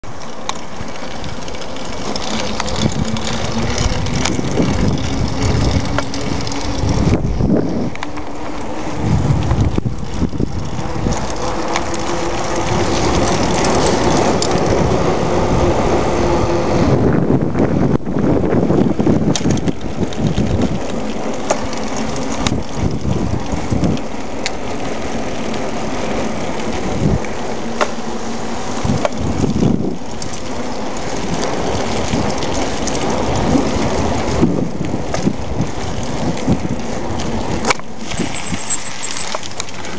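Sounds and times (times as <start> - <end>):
bicycle road noise: 0.0 - 39.9
camera and bike rattling: 0.0 - 39.9
steady low hum: 0.1 - 39.9
wind buffeting microphone: 0.6 - 39.9.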